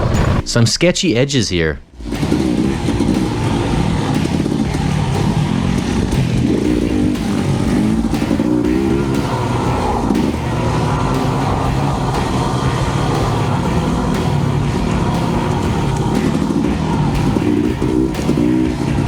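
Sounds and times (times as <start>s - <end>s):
dirt bike engine revving: 1.9s - 19.0s.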